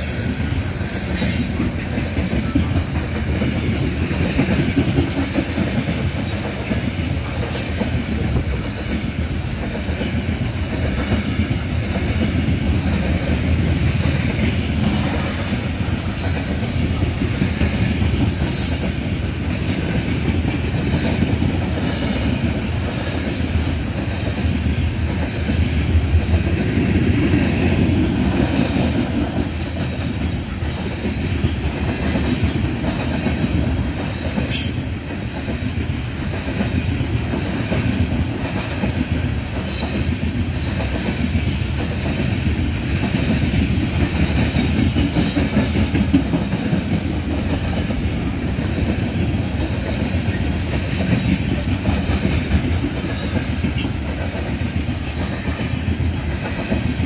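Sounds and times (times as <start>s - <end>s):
rhythmic clickety-clack: 0.0s - 57.0s
train wheels rumbling on rails: 0.0s - 57.0s.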